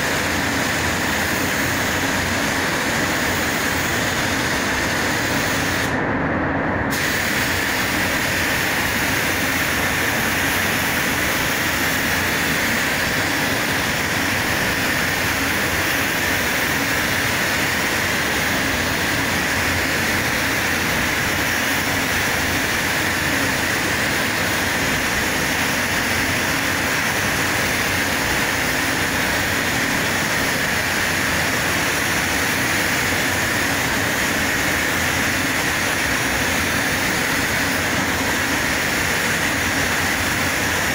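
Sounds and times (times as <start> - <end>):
spray gun spraying: 0.0 - 6.0, 6.9 - 40.9
ventilation air rushing: 0.0 - 40.9.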